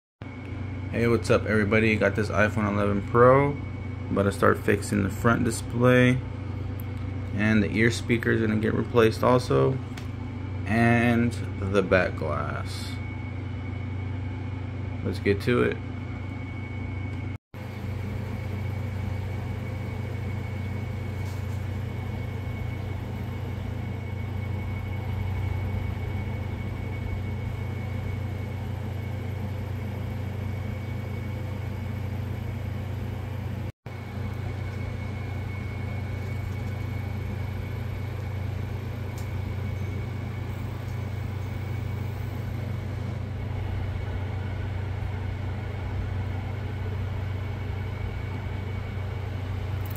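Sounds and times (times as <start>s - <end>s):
low machine hum: 0.2s - 49.9s
faint high whine: 0.3s - 49.9s.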